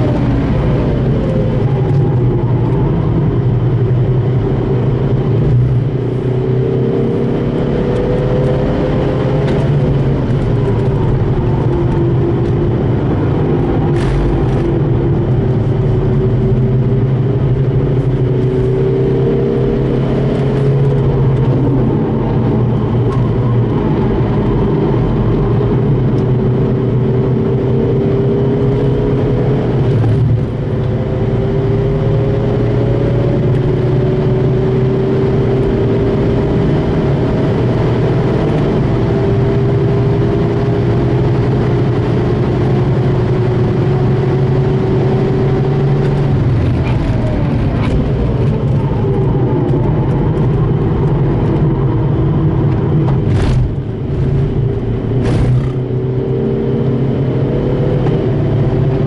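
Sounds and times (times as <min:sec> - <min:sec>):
diesel engine running hard: 0:00.0 - 0:59.0.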